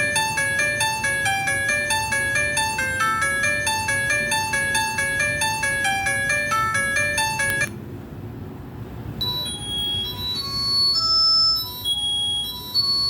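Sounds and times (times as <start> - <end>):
electronic phone ringtone: 0.0 - 7.7, 9.2 - 13.0.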